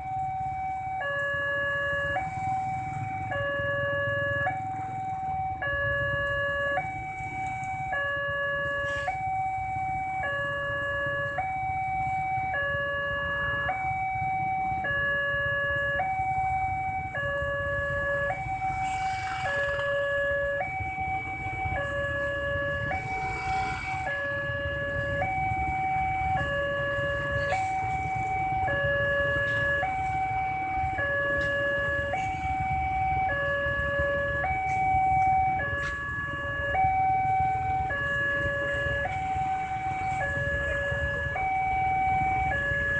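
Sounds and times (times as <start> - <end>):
motorcycle engines idling: 0.0 - 42.9
two-tone crossing alarm: 0.0 - 42.9.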